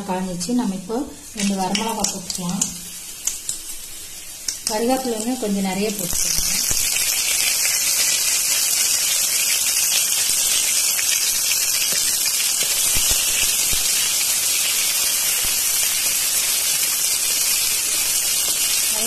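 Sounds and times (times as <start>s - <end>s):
leaves and chillies sizzling in oil: 0.1s - 19.0s.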